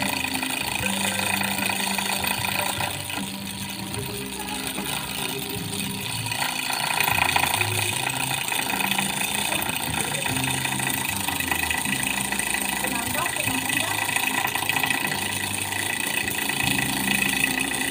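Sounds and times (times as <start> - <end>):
motor hammer chattering on metal: 0.0 - 17.9
steady motor hum: 0.0 - 17.9.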